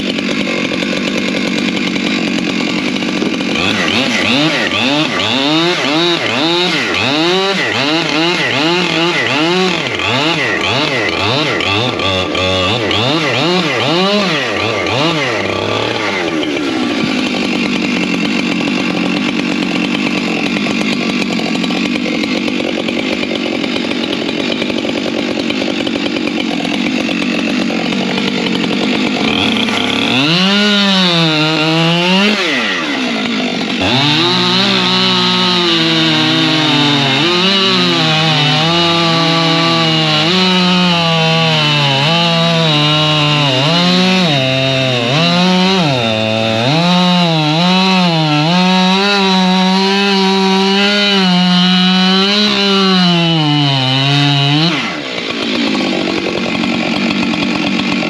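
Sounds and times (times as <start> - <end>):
chainsaw cutting firewood: 0.0 - 58.0.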